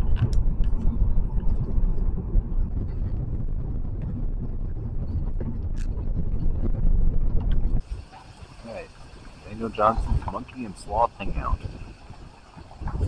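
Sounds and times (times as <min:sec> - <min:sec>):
vehicle road noise rumble: 0:00.0 - 0:13.0.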